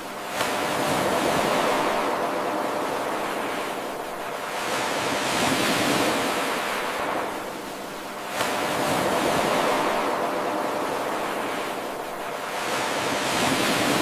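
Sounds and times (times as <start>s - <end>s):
ocean waves on shore: 0.0s - 14.0s.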